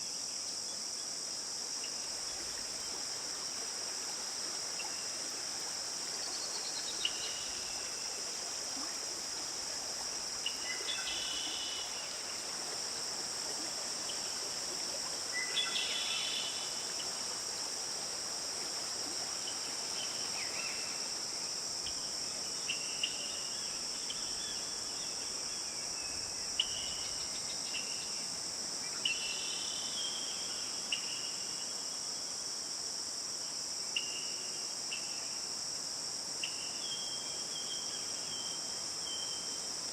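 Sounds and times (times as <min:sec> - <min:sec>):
flowing water hiss: 0:00.0 - 0:39.9
high-pitched insect chorus: 0:00.0 - 0:39.9.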